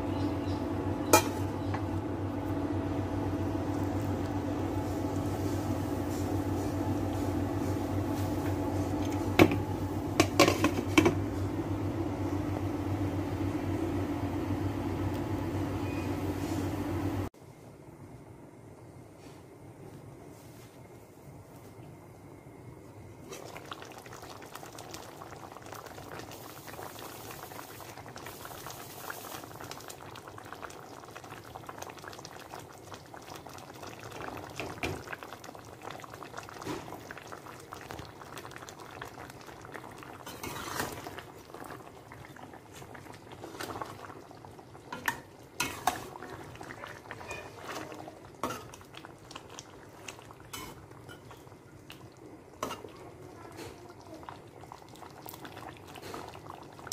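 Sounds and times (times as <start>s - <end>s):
food simmering in a pan: 0.1s - 17.3s, 22.8s - 56.9s.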